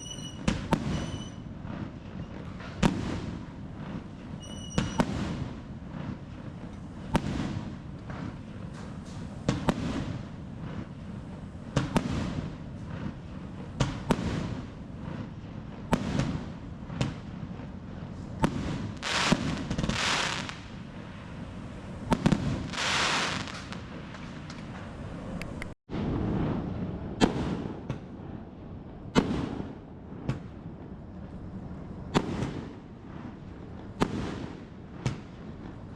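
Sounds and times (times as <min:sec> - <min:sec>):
hissing crackling firework bursts: 0:00.0 - 0:26.6, 0:29.1 - 0:35.9
firework bangs: 0:00.0 - 0:35.9.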